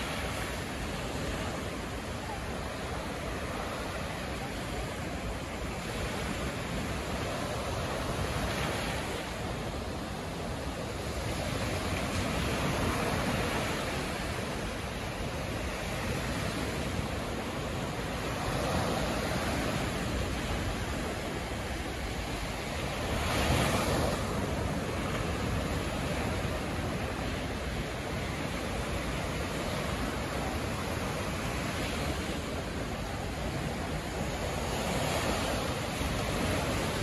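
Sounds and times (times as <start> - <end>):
sea waves breaking on a beach: 0.0 - 37.0.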